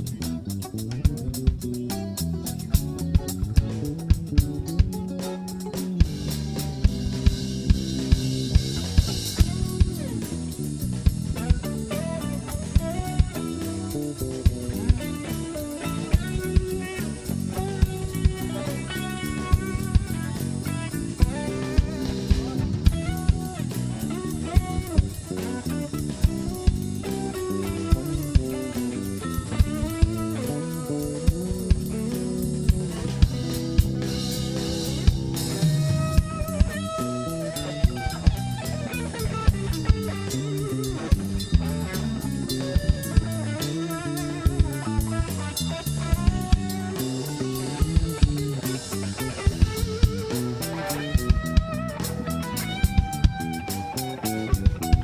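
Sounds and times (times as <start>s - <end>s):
bass line: 0.0s - 55.0s
drum kit: 0.0s - 55.0s
electric guitar bending notes: 0.0s - 55.0s.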